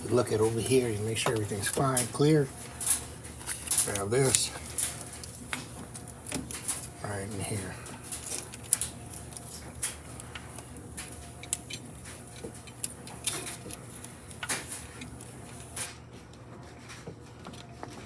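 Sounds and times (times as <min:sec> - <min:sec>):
clicks and knocks of engine parts: 0:00.0 - 0:18.0.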